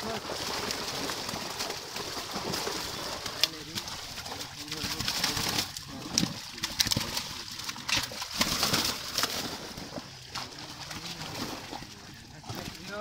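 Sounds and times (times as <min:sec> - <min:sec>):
fish thrashing and splashing: 0:00.0 - 0:13.0
water sloshing: 0:00.0 - 0:13.0.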